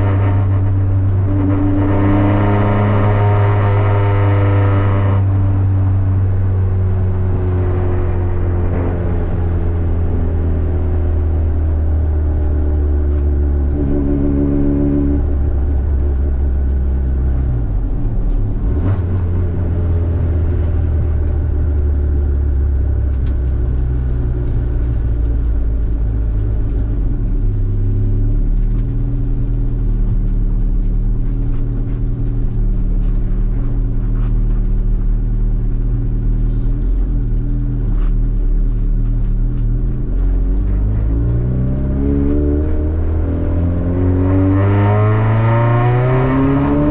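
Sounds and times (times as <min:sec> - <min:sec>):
car engine drone: 0:00.0 - 0:46.9
road noise inside car: 0:00.0 - 0:46.9.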